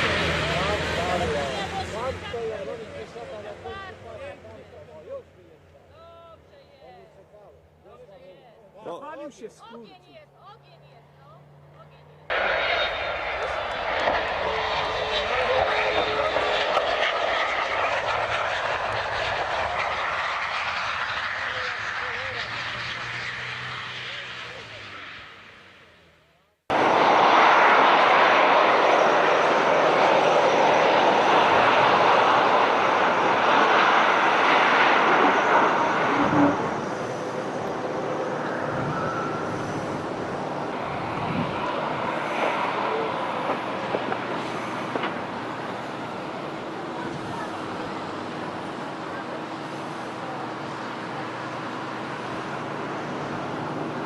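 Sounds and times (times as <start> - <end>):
aircraft engine noise: 0.0 - 6.7, 9.0 - 54.0.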